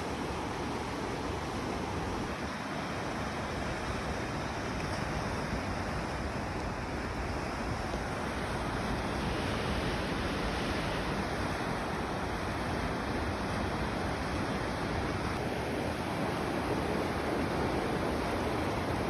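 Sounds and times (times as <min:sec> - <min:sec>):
whitewater rushing: 0:00.0 - 0:19.0
wind noise on microphone: 0:00.0 - 0:19.0.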